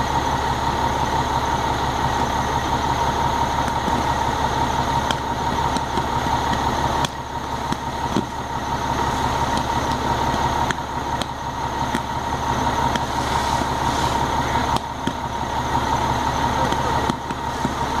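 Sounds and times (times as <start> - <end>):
constant high whine: 0.0 - 18.0
fire engine pump noise: 0.0 - 18.0
power lines arcing cracks: 3.5 - 18.0.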